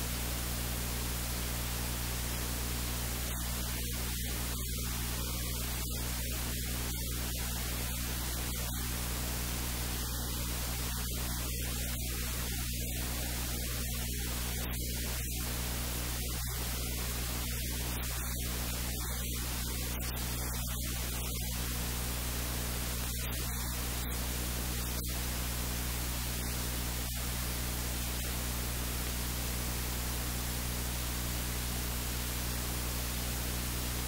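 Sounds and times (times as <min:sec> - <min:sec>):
low electrical hum: 0:00.0 - 0:34.0
static hiss: 0:00.0 - 0:34.0.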